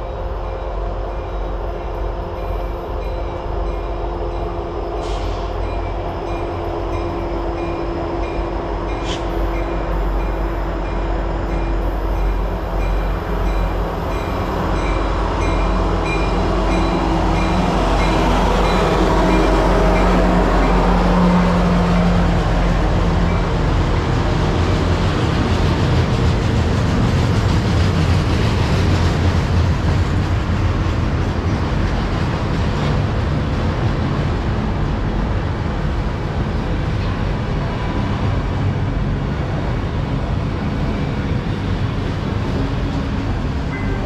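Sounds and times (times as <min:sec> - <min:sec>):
locomotive engine hum: 0:00.0 - 0:44.0
train wheels rumbling on rails: 0:00.0 - 0:44.0.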